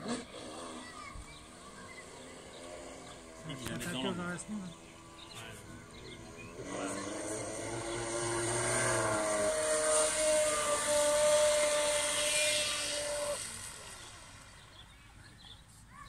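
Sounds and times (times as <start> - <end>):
model boat motor whining: 0.0 - 16.0.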